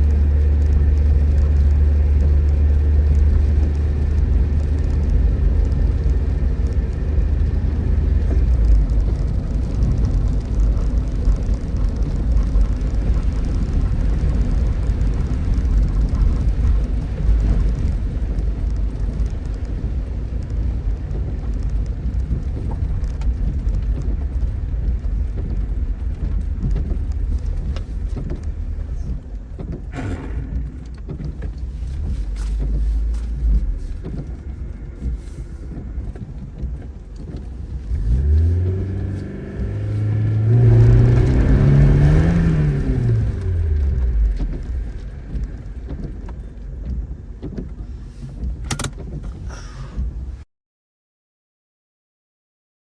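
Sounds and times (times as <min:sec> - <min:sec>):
rain falling: 0:00.0 - 0:50.4
car engine rumbling: 0:00.0 - 0:50.5.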